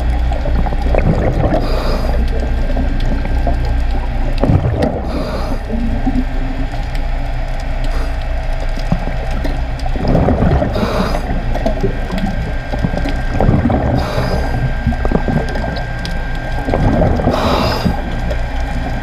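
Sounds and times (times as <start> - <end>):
bubbling hiss of exhaled bubbles: 0.0 - 6.7, 7.9 - 19.0
underwater low rumble with clicks: 0.0 - 19.0.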